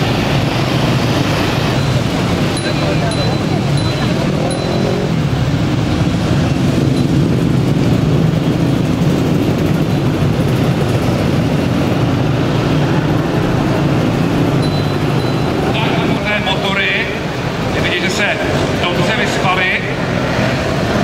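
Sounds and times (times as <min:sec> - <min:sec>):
motorcycles riding past: 0:00.0 - 0:21.0.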